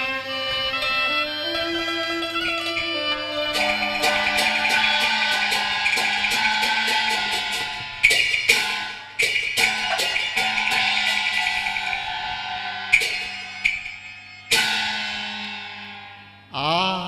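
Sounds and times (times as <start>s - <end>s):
melodic opera instruments: 0.0s - 15.4s
cymbal crashes: 0.0s - 16.5s
clacking percussion strikes: 0.0s - 16.8s.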